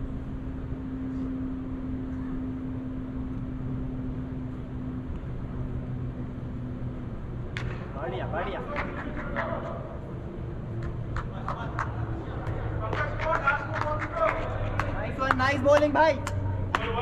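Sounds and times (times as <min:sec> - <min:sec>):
blower and ventilation fans humming: 0:00.0 - 0:17.0.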